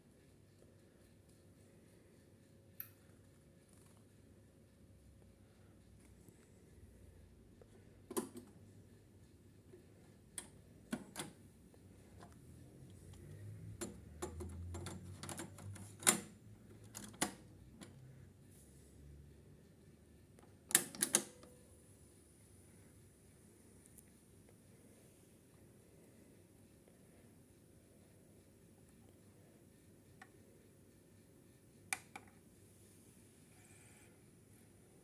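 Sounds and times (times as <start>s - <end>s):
faint low hum: 0.0s - 35.0s.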